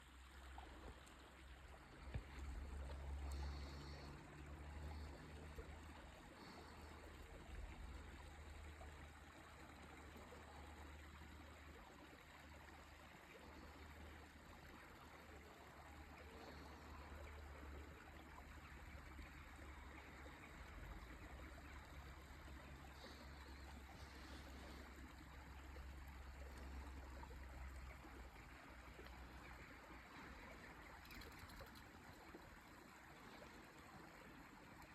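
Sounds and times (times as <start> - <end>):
stream running water: 0.0 - 34.9.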